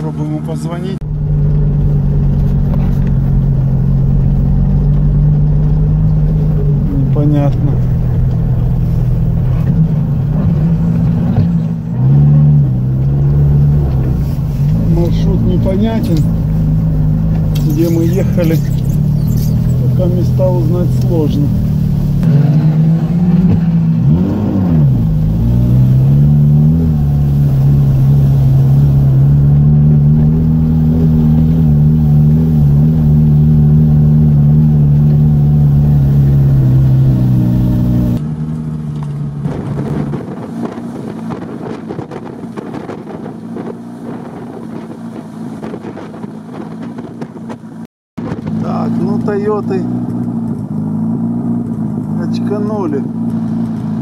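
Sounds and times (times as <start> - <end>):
vehicle engine from inside cab: 0.0 - 54.0.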